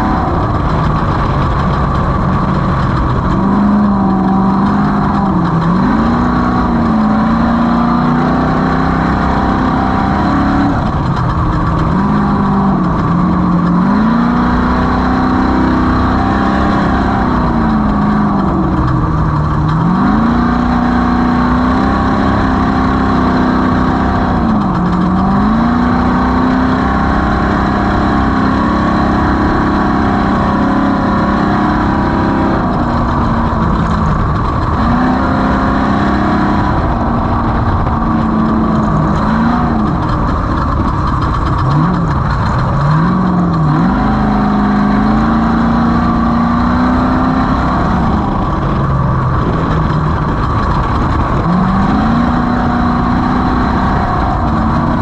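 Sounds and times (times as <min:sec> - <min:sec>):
race vehicle engine revving: 0:00.0 - 0:55.0.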